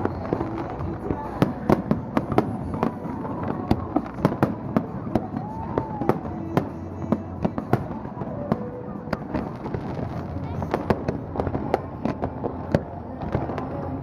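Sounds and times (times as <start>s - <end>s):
fireworks bangs and pops: 0.0s - 14.0s.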